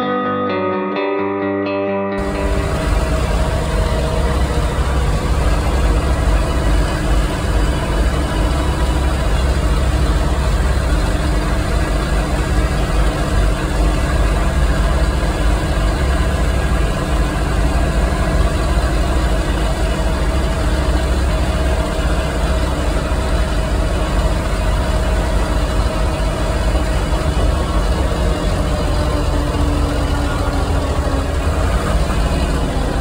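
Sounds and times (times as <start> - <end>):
tractor diesel engine rumbling: 2.2 - 33.0.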